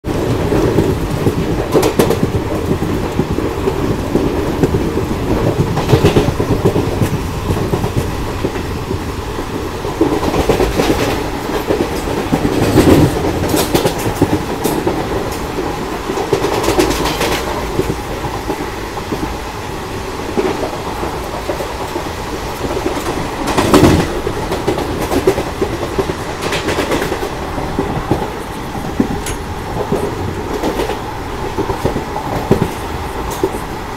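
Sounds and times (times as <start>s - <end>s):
train wheels clattering on rails: 0.0s - 33.9s.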